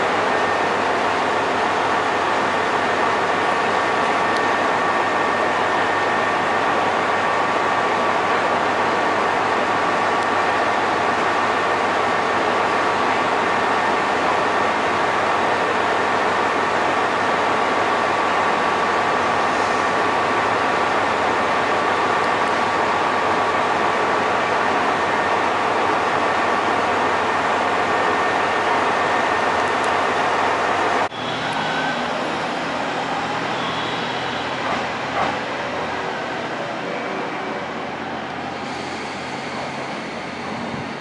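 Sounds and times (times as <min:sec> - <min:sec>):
electric train equipment hum: 0:00.0 - 0:41.0.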